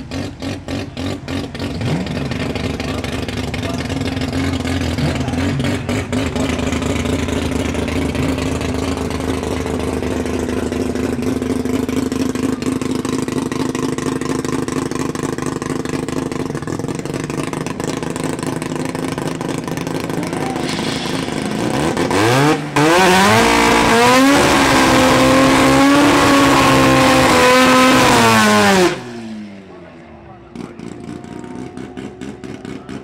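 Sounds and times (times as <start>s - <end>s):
engine revving: 0.0s - 29.8s
car engine idling: 0.0s - 33.0s.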